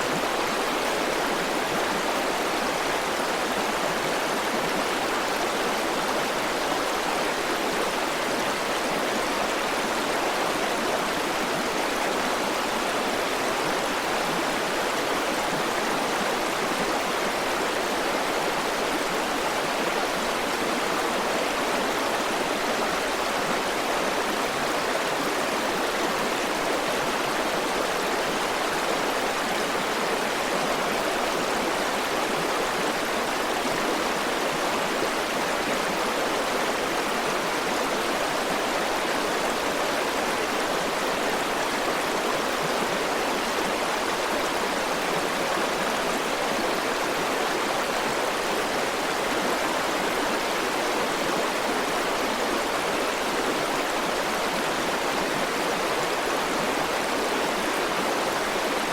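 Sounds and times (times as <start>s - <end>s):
river water rushing over rocks: 0.0s - 58.9s.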